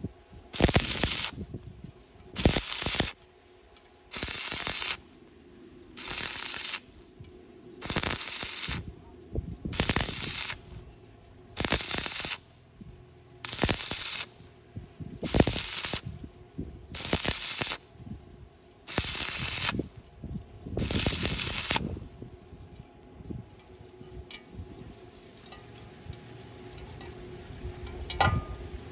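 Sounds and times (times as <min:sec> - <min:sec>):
arc welding crackle: 0:00.0 - 0:28.9.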